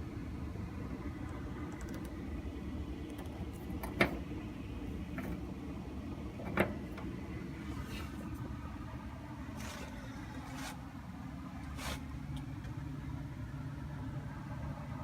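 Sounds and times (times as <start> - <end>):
vehicle rumble inside cabin: 0.0 - 15.0.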